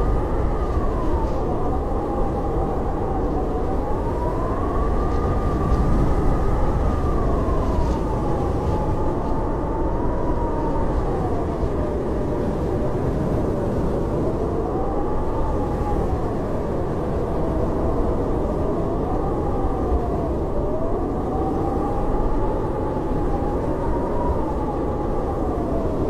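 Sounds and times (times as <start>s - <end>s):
howling blizzard wind: 0.0s - 26.0s.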